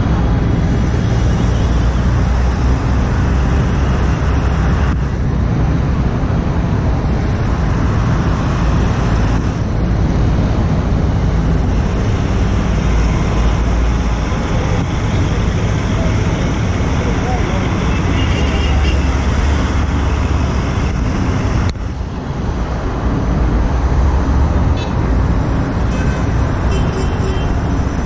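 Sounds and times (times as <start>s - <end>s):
city traffic noise: 0.0s - 28.0s.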